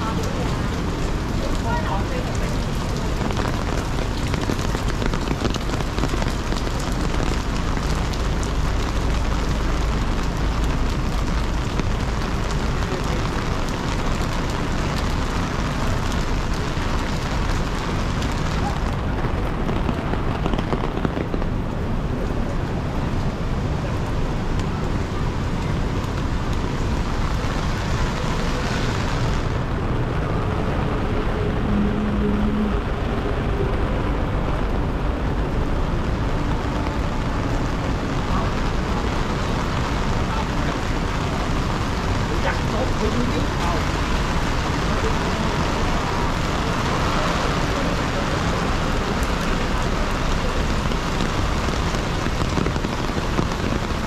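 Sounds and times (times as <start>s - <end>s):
rain on wet street: 0.0s - 54.0s
traffic rumble: 0.0s - 54.0s.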